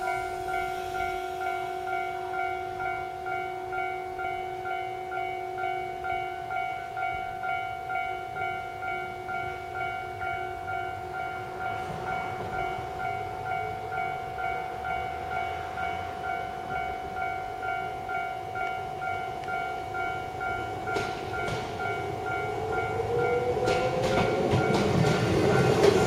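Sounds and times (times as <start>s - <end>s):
level-crossing warning bell: 0.0s - 26.0s
steady warning tone: 0.0s - 26.0s.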